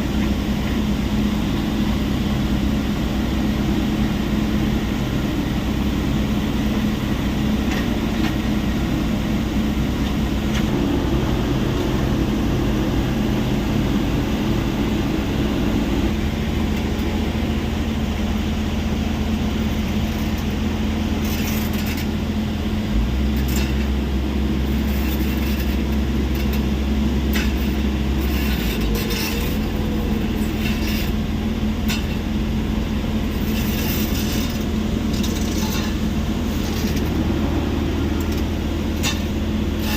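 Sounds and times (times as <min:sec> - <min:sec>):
heavy diesel machinery drone: 0:00.0 - 0:39.9.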